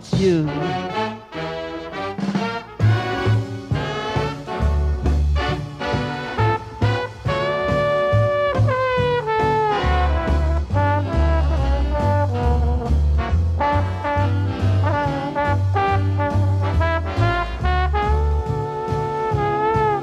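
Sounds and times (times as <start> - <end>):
dance band horns: 0.0 - 20.0
walking bass: 2.2 - 20.0.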